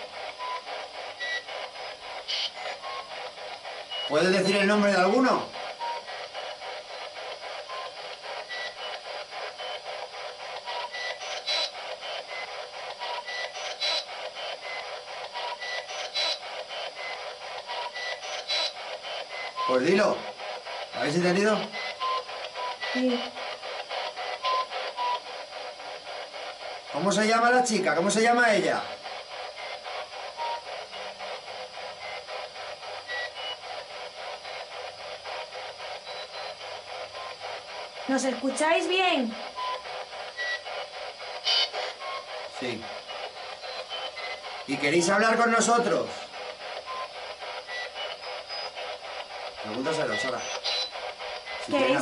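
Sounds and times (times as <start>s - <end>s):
radio static sweeping: 0.0s - 52.0s.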